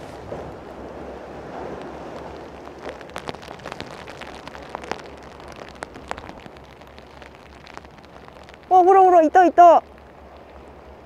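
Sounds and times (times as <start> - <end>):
raindrops ticking close by: 0.0 - 11.0
steady rain: 0.0 - 11.0.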